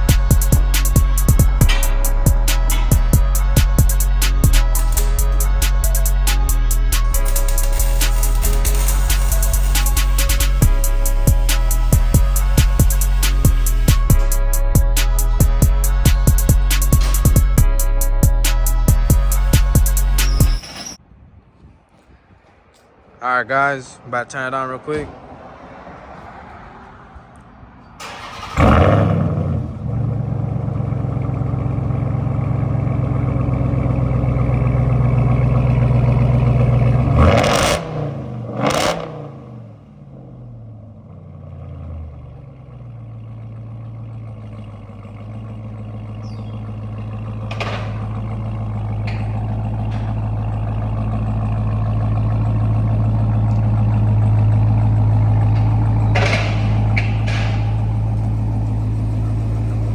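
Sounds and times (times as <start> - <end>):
loud truck engine idling and revving: 0.0 - 21.0, 27.3 - 59.9.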